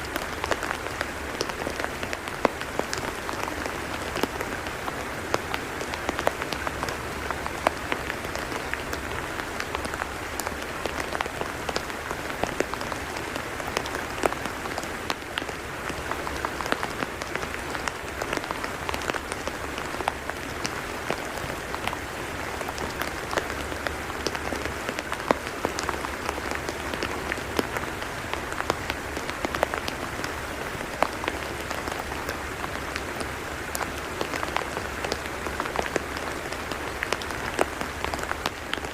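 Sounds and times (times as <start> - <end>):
rain falling on mud: 0.0 - 38.9.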